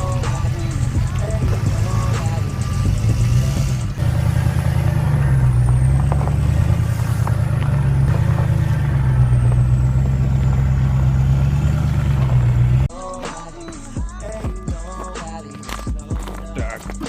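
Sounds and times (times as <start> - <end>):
diesel pickup engine running: 0.0 - 17.0.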